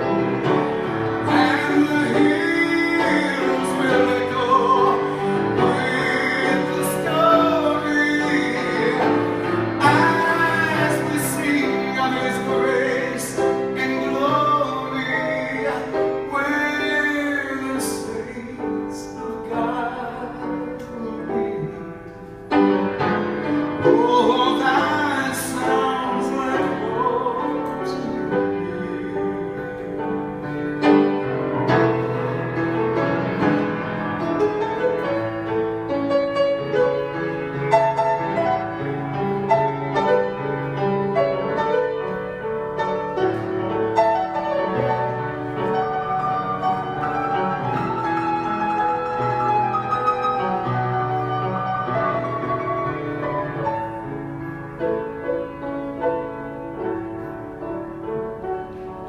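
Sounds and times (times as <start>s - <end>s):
piano melody: 0.0s - 59.0s.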